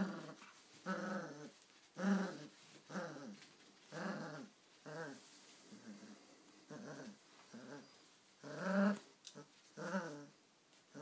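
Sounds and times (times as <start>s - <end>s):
puppy play-growling: 0.0s - 11.0s.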